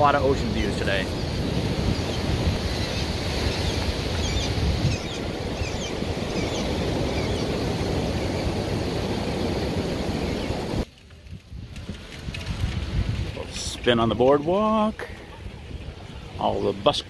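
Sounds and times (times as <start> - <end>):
surf washing on beach: 0.0 - 17.0
wind rumbling on microphone: 0.0 - 17.0.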